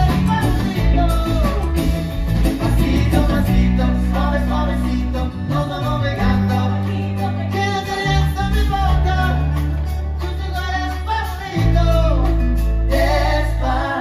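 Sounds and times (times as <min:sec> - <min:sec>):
bass line: 0:00.0 - 0:14.0
latin dance band music: 0:00.0 - 0:14.0.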